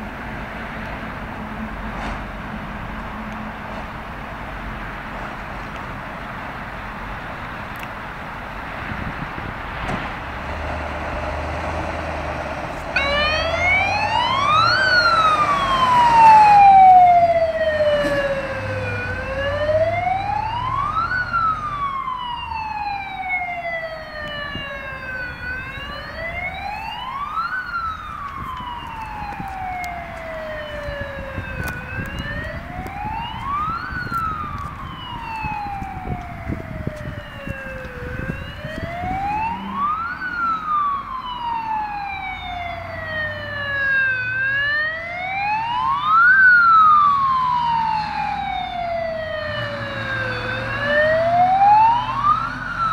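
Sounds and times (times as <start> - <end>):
fire engine siren wailing: 7.7 - 52.9.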